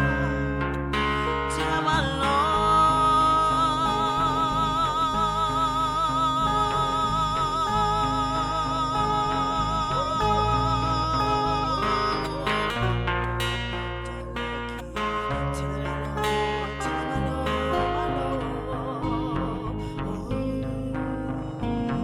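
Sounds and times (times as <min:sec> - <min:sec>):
plucked strings: 0:00.0 - 0:22.0
woman singing with vibrato: 0:00.0 - 0:22.0.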